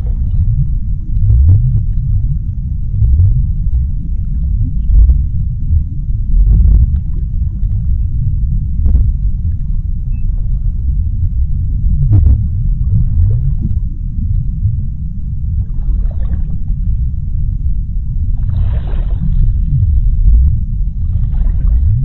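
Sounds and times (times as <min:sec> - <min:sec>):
low dipping swoop: 0:00.0 - 0:22.0
underwater low rumble: 0:00.0 - 0:22.0.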